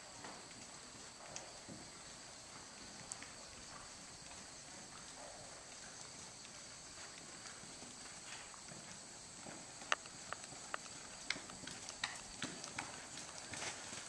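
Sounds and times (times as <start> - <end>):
horse trotting on sand: 0.0 - 14.0
steady high hiss: 0.0 - 14.0.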